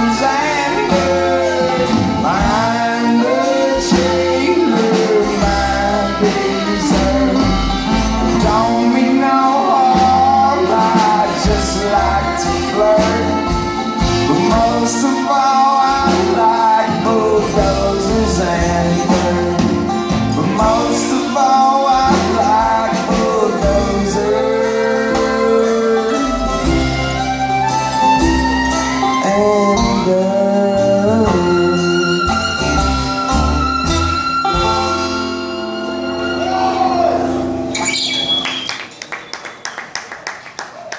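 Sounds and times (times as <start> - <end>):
bluegrass string band playing: 0.0 - 39.2.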